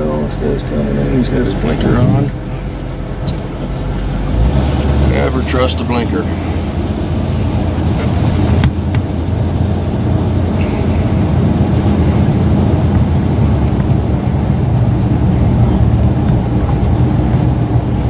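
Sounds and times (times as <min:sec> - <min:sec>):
pickup engine running: 0:00.0 - 0:18.0
road noise: 0:00.0 - 0:18.0.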